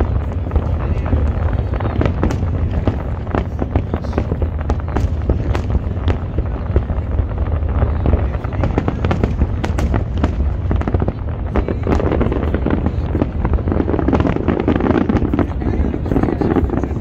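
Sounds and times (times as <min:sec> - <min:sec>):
deep rumble: 0:00.0 - 0:17.0
firework shells bursting: 0:00.0 - 0:17.0
fireworks crackling: 0:00.0 - 0:17.0.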